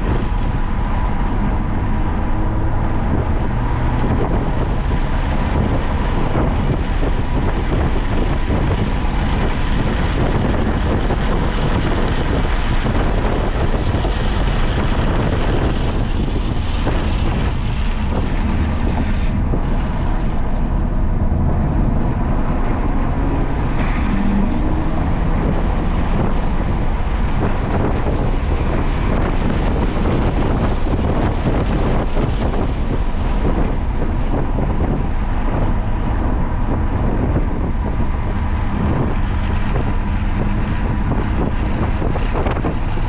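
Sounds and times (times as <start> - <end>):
vehicle engine at speed: 0.0 - 43.0
wind buffeting microphone: 0.0 - 43.0.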